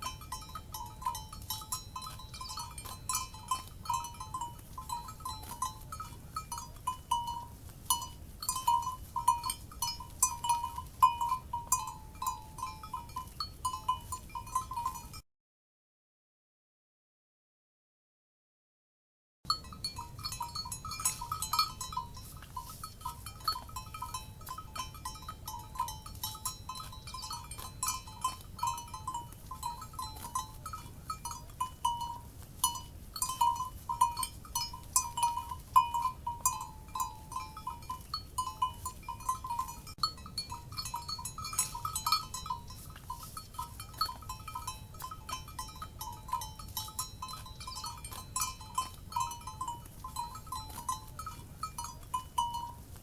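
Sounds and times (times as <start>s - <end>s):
cowbells clanking: 0.0s - 15.2s, 19.5s - 53.0s.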